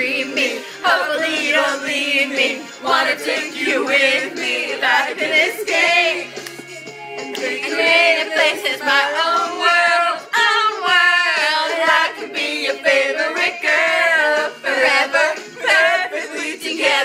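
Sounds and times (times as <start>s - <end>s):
group singing loudly: 0.0s - 6.4s, 7.3s - 17.0s.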